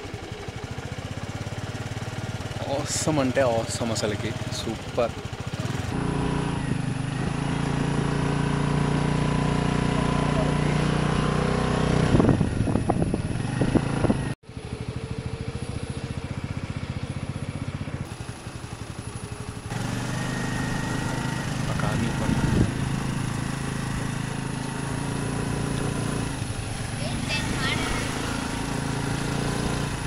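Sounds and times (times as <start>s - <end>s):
vehicle engine idling: 0.0s - 11.5s, 12.2s - 30.0s.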